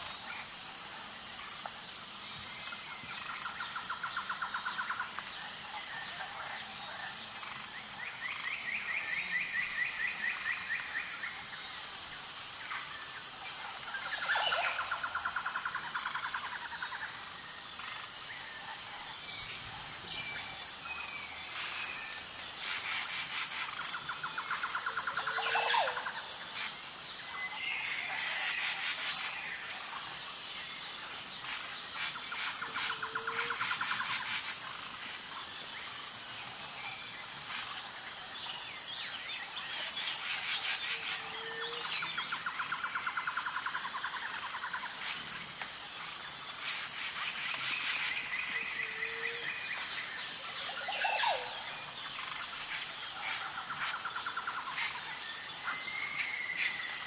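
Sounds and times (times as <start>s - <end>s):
bird calls and trills: 0.0s - 57.0s
high-pitched insect chorus: 0.0s - 57.0s.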